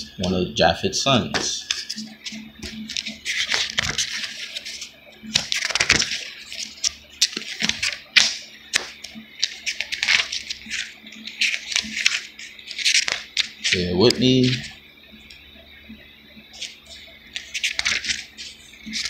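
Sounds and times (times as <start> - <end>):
pages rustling and flicking: 1.3 - 14.8, 16.5 - 19.0.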